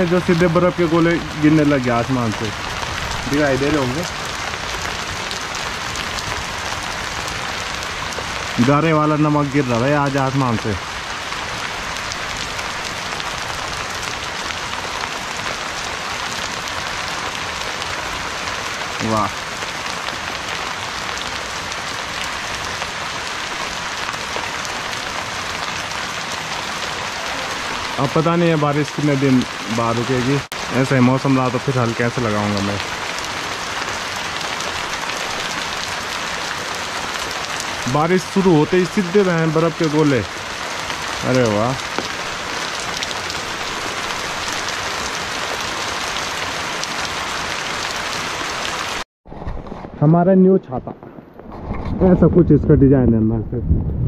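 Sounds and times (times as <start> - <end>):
hailstones ticking on stone: 0.0 - 49.0
heavy rain hissing: 0.0 - 49.0.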